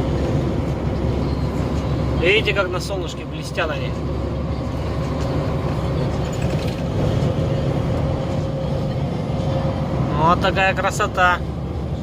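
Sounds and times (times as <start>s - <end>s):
truck engine and tyres droning: 0.0s - 12.0s.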